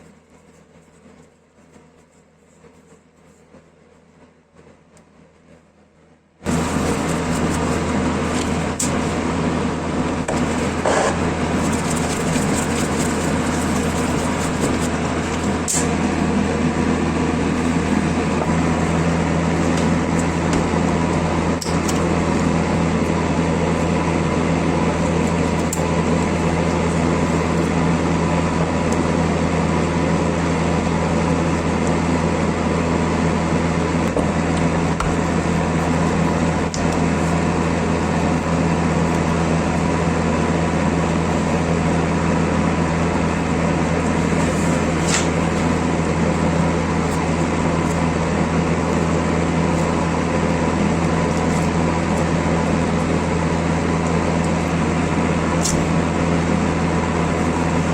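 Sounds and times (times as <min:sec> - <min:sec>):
electric motor humming: 0:06.4 - 0:57.9.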